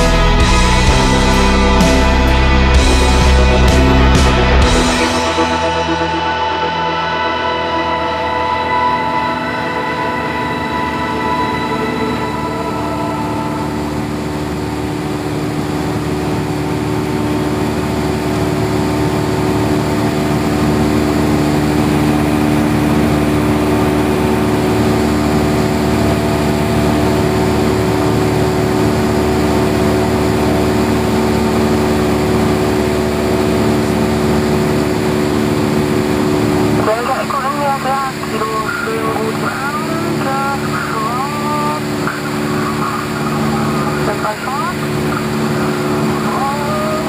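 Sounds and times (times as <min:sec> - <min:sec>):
propeller plane engine droning: 0:00.0 - 0:47.0.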